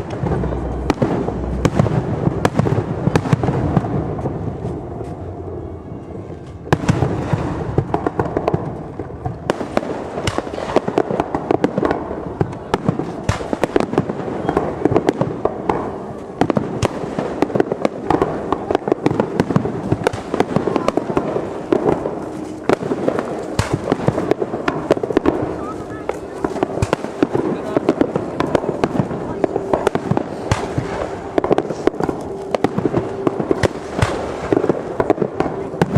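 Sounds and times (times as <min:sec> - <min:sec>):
fireworks bangs and crackling: 0:00.0 - 0:35.9.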